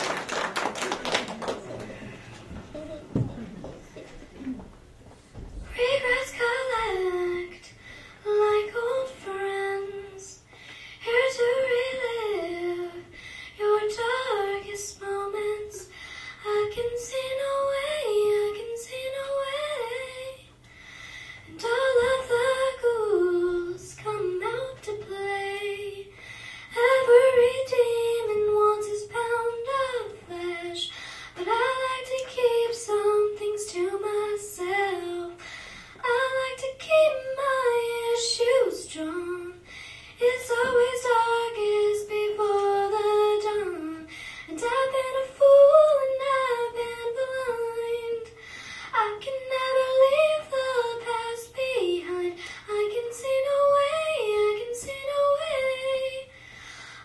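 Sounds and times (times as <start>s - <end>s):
girl singing into microphone: 5.4s - 56.9s.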